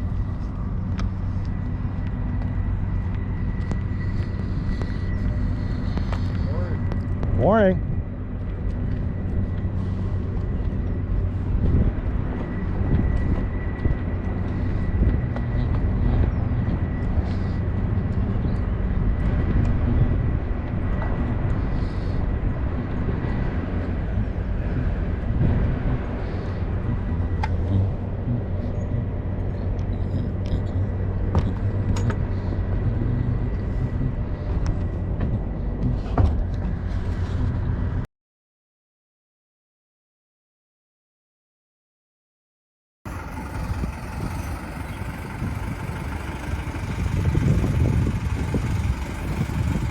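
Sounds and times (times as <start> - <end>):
engine running with low hum: 0.0 - 38.1, 43.1 - 49.9.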